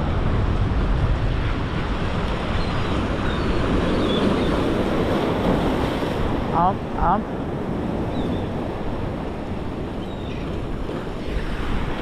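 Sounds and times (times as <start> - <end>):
ocean water surging: 0.0 - 12.0
wind buffeting microphone: 0.0 - 12.0.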